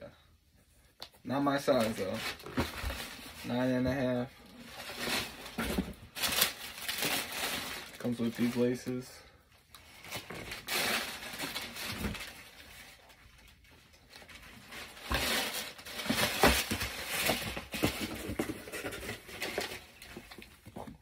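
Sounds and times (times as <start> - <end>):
tissue paper and cardboard rustling: 1.3 - 9.0, 9.9 - 21.0.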